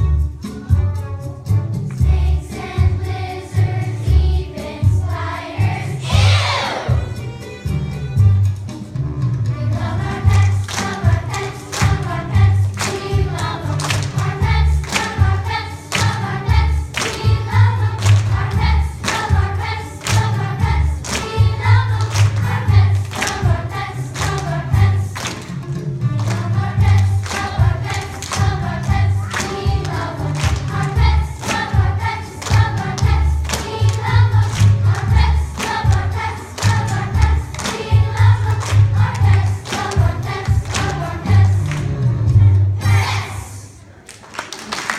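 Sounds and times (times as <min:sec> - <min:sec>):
music with steady beat: 0:00.0 - 0:43.2
choir singing: 0:02.0 - 0:07.2, 0:09.7 - 0:25.6, 0:26.2 - 0:42.0, 0:42.8 - 0:43.8.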